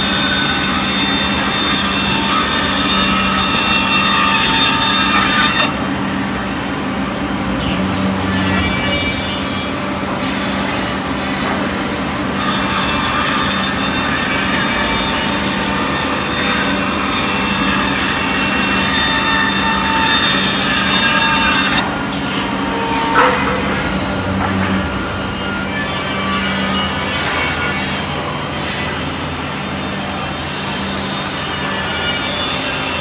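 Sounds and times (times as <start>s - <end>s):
machine hum: 2.3s - 13.0s, 13.9s - 30.2s.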